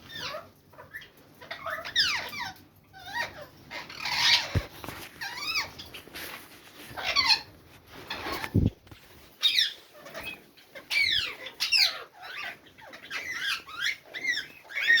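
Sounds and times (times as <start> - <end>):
birds squawking: 0.0 - 6.1, 6.8 - 8.6, 9.3 - 15.0.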